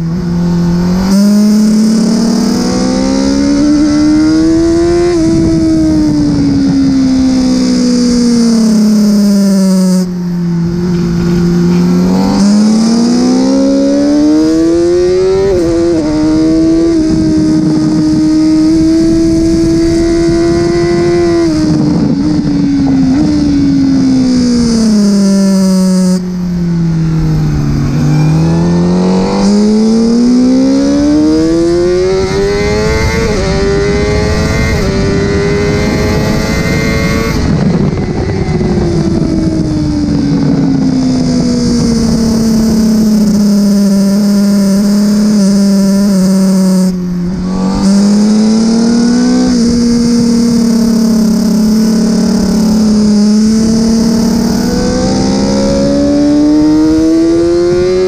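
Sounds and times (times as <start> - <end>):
motorcycle engine revving through gears: 0.0 - 58.0.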